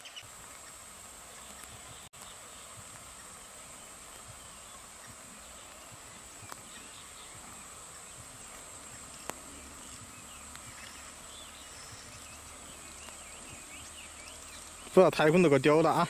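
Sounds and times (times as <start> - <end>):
faint chirps: 0.0 - 16.0
insects droning: 0.0 - 16.0.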